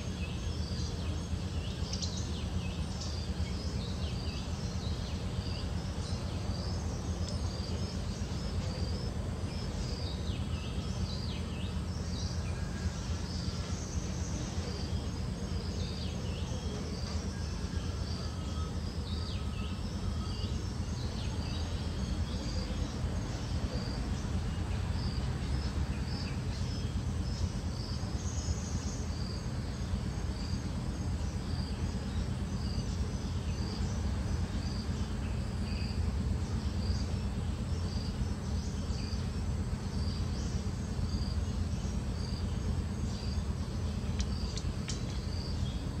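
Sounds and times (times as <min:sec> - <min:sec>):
insects chirping: 0:00.0 - 0:46.0
steady low rumble: 0:00.0 - 0:46.0.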